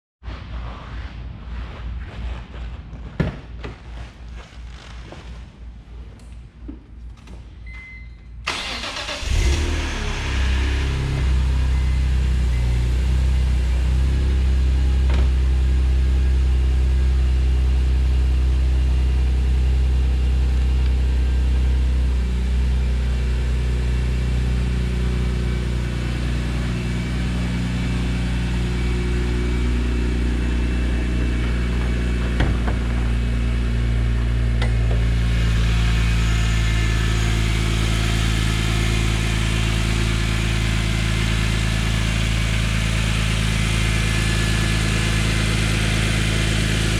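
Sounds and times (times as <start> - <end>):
car engine idling: 8.5 - 46.9.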